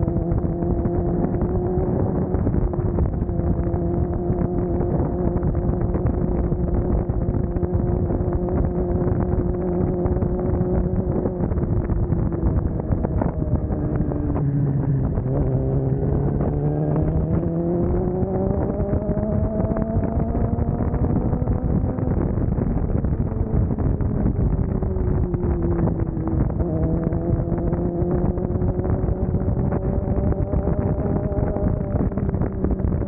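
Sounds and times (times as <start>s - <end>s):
motorcycle engine running: 0.0s - 33.0s
wind noise: 0.0s - 33.0s.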